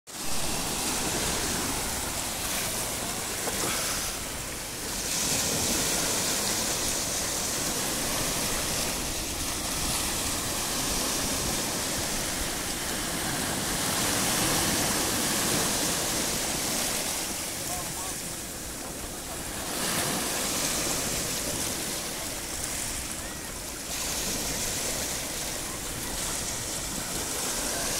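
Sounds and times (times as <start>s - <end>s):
waves washing over cobbles: 0.1s - 27.9s.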